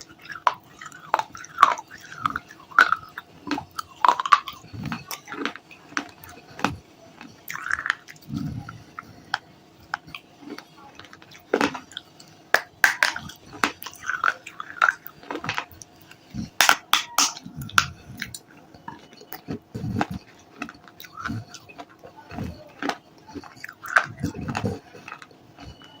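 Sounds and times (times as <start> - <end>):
biting and chewing brittle clay: 0.0 - 26.0.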